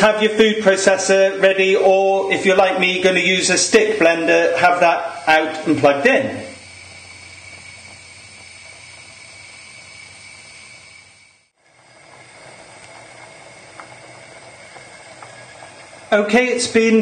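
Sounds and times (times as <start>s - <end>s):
soup simmering hiss: 0.0s - 17.0s.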